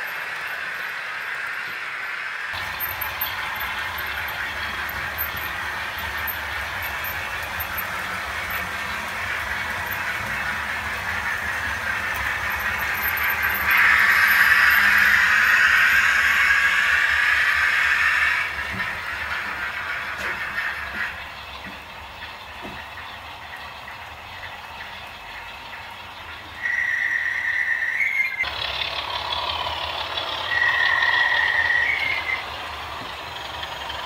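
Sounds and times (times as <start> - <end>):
metal wheels on rail: 0.0 - 34.0
model train motors whirring: 0.0 - 34.0.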